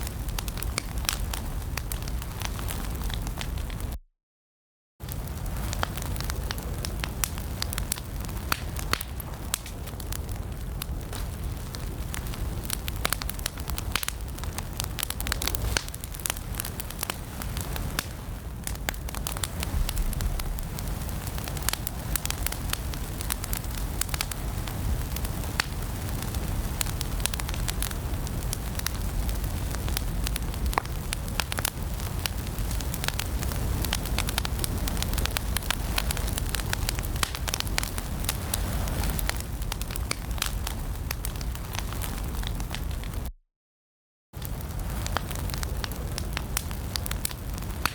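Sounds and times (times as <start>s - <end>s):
fire crackling and popping: 0.0s - 4.0s, 5.0s - 43.3s, 44.4s - 47.9s
low rumble of flames: 0.0s - 4.0s, 5.0s - 43.3s, 44.4s - 47.9s.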